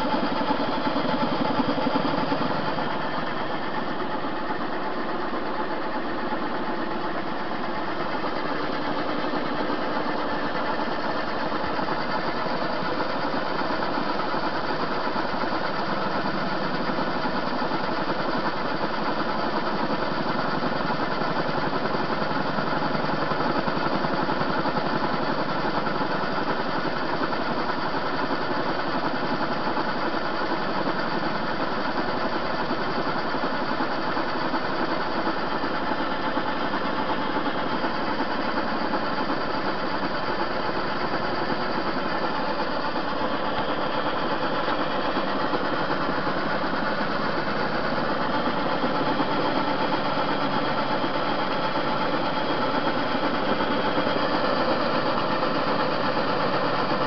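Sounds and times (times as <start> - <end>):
lathe motor humming and whining: 0.0 - 57.0.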